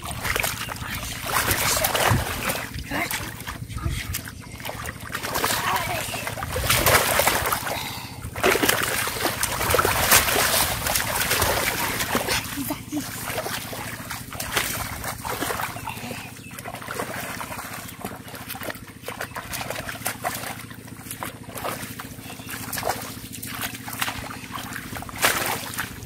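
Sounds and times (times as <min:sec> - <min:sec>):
splashing in muddy water: 0:00.0 - 0:26.0
steady low hum: 0:00.0 - 0:26.0.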